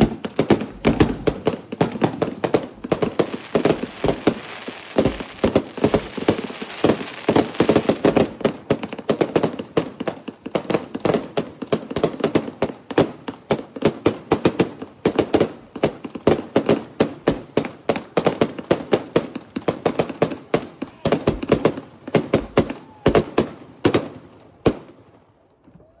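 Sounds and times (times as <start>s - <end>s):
firecrackers banging: 0.0s - 25.0s.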